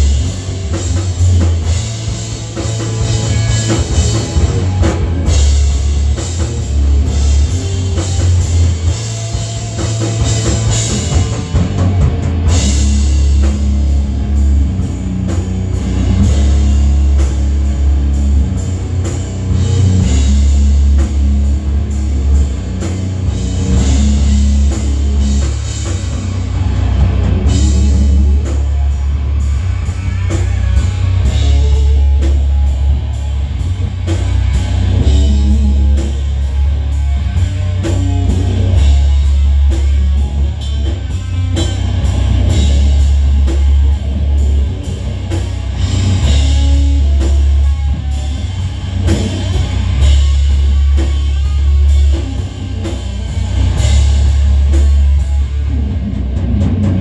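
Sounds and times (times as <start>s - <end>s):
drum kit with cymbal strikes: 0.0s - 57.0s
electric bass: 0.0s - 57.0s
electric guitar: 0.0s - 57.0s.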